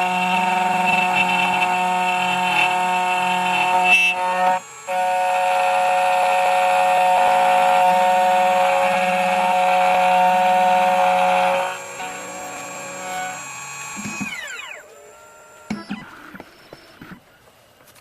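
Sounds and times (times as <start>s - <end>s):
key cutting machine whining: 0.0s - 17.1s
cutter grinding metal: 0.0s - 17.2s.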